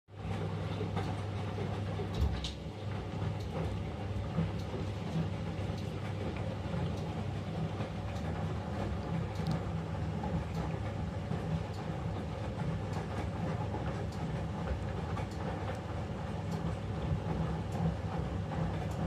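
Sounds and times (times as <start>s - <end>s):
washing machine running: 0.1s - 19.0s.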